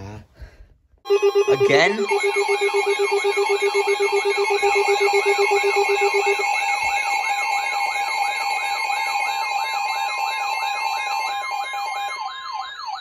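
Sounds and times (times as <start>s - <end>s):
steady alert tones: 1.1s - 11.5s
rapid low beeping: 1.1s - 12.4s
warbling siren tone: 1.1s - 13.0s.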